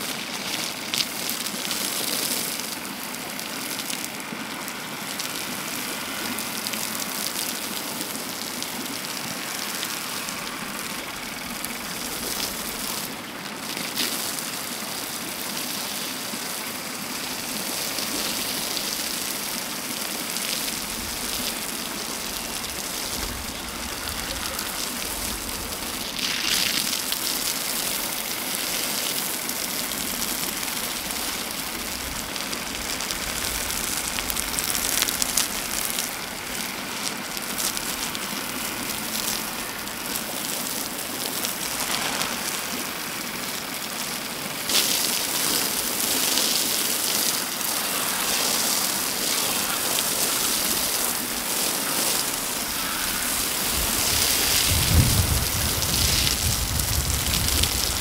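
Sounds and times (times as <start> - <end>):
hose spray watering soil: 0.0 - 58.0.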